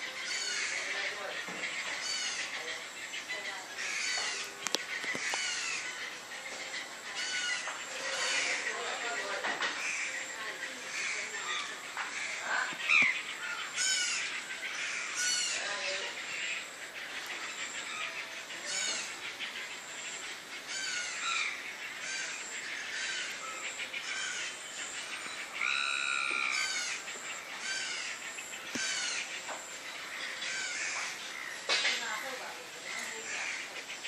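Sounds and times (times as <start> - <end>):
many birds calling: 0.0 - 34.0.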